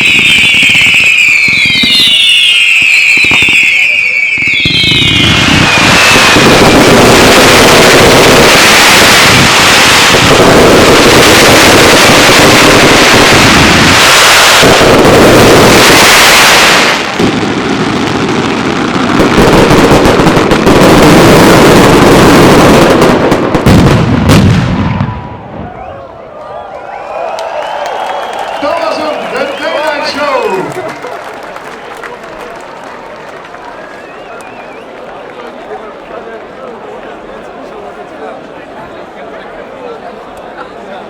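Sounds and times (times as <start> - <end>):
fireworks bangs: 0.0 - 26.2, 27.5 - 35.2.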